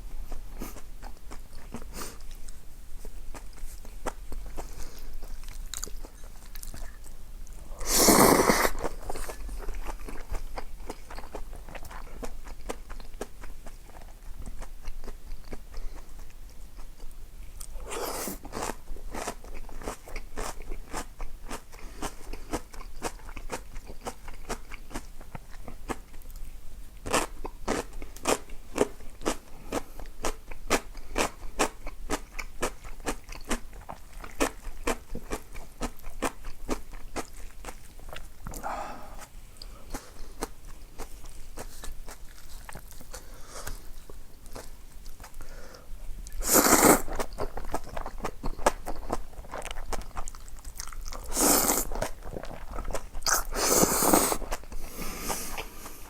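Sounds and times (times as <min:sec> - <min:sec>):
person chewing crunchy food: 0:00.2 - 0:56.0.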